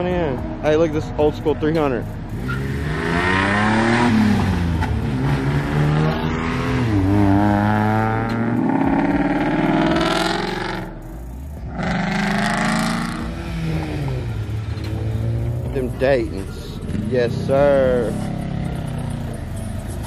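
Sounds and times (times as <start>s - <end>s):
cars revving and accelerating past: 0.0s - 20.0s.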